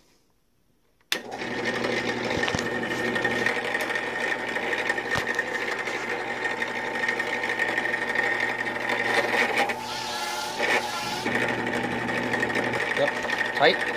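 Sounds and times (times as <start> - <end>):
drill press motor running: 1.2 - 13.9.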